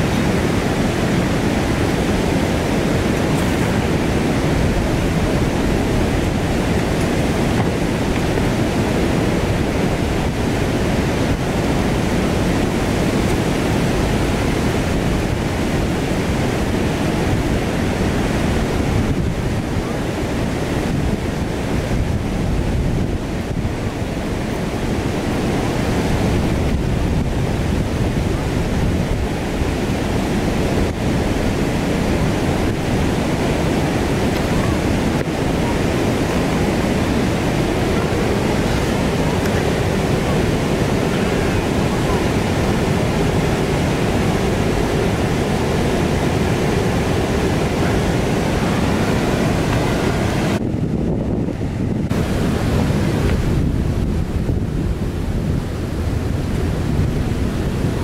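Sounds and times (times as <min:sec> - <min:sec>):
river water rushing over rapids: 0:00.0 - 0:58.0
wind buffeting microphone: 0:00.0 - 0:58.0.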